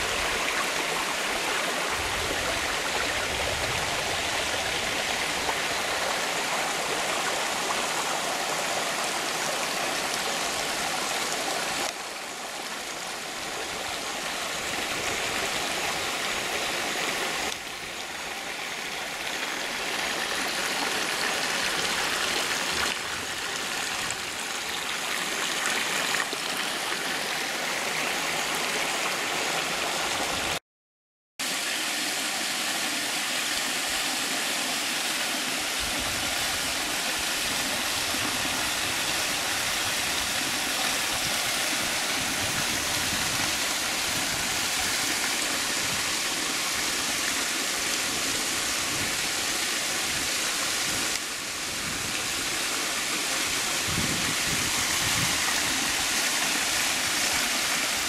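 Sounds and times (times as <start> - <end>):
water rushing in stream: 0.0 - 30.6, 31.4 - 58.0.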